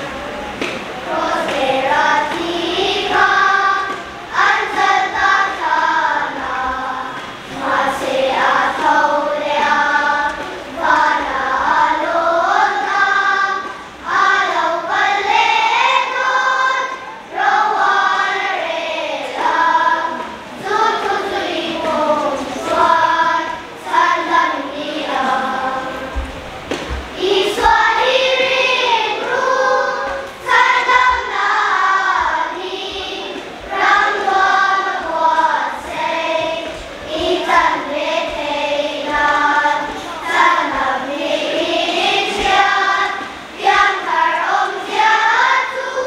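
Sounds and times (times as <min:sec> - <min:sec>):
children's choir singing: 0:00.0 - 0:46.0.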